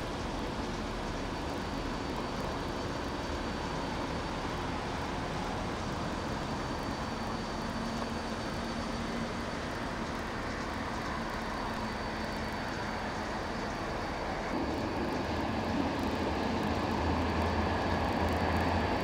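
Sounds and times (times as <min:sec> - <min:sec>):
diesel railcar engine running: 0:00.0 - 0:19.0
railcar approaching: 0:00.0 - 0:19.0.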